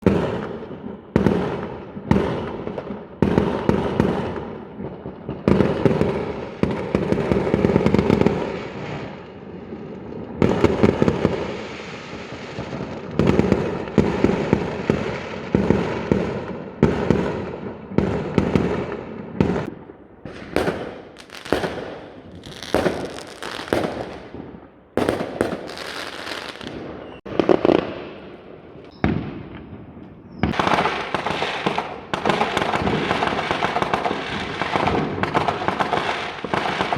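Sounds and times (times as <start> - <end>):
fireworks bangs: 0.0 - 36.9
fireworks crackling: 0.0 - 36.9.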